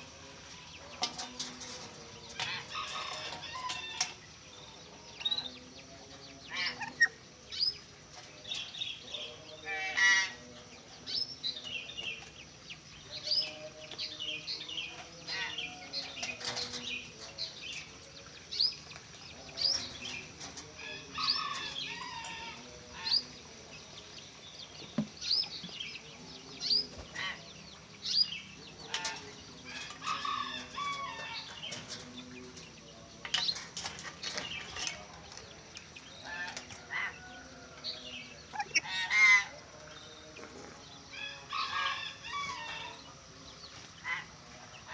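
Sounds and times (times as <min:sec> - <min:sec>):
birds chirping and whistling: 0:00.0 - 0:44.9.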